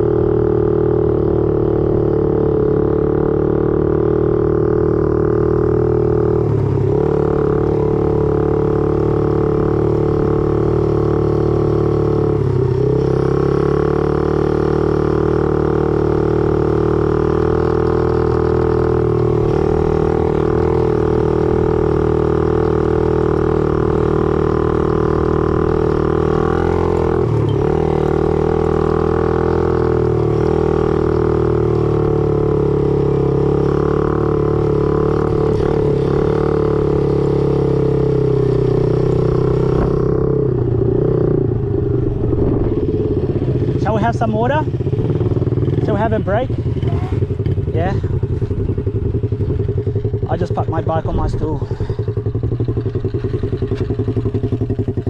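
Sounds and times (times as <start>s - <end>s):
dirt bike engine droning: 0.0s - 55.0s.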